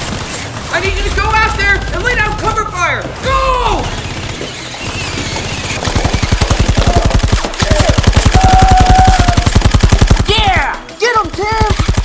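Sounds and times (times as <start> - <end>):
rapid machine-gun fire: 0.0 - 12.0.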